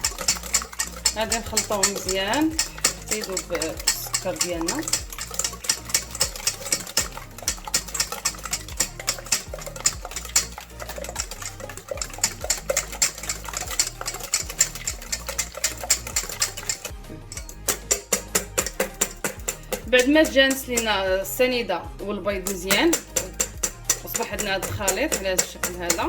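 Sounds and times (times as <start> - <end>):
whisk clicking against bowl: 0.0 - 21.2, 22.4 - 26.0.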